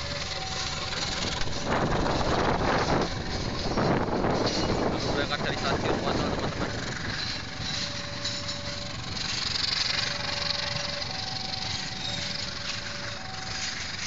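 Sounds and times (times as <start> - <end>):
level-crossing two-tone warning signal: 0.0 - 14.0
train coaches rolling on rails: 0.0 - 14.0.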